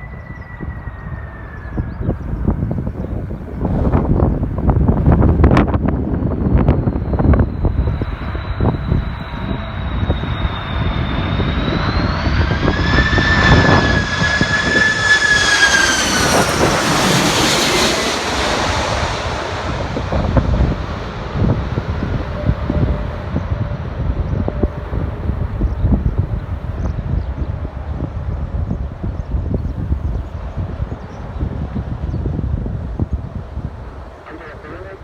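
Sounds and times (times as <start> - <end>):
jet engine whine passing: 0.0 - 31.0
wind buffeting microphone: 0.0 - 35.0.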